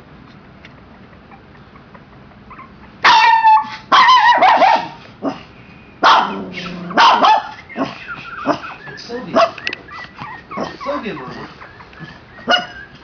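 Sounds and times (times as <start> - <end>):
puppy yapping: 1.3 - 13.0.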